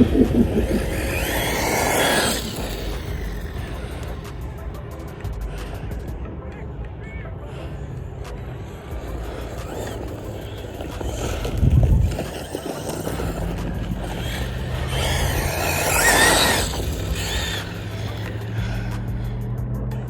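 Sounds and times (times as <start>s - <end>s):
rc car motor whining: 0.0s - 6.1s, 7.4s - 19.6s
low hum: 0.0s - 19.7s.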